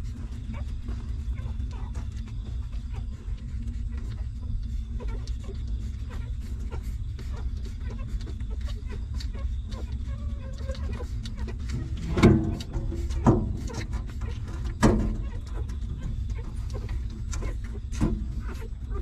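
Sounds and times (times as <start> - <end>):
puppies suckling clicks: 0.0 - 19.0
steady low rumble: 0.0 - 19.0
puppy whimpers: 0.4 - 3.2, 5.0 - 17.8.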